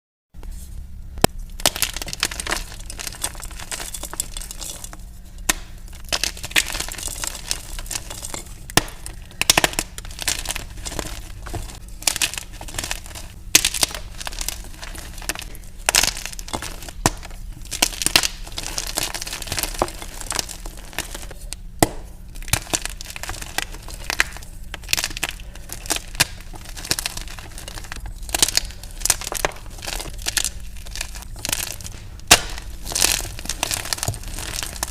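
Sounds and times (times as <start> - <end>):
chalk crushing and crumbling: 0.5 - 34.9.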